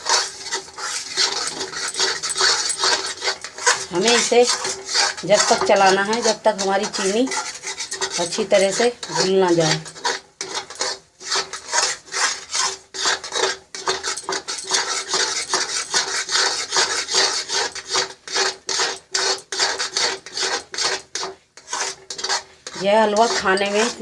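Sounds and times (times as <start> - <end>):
spatula scraping a pan: 0.0 - 24.0.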